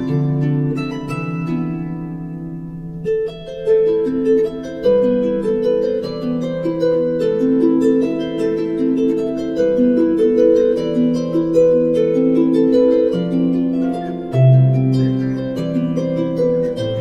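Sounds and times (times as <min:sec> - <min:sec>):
plucked harp-like music: 0:00.0 - 0:17.0.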